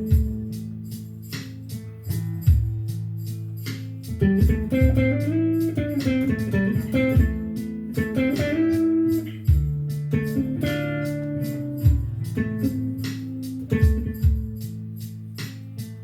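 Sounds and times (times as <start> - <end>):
blues guitar playing: 0.0 - 16.0.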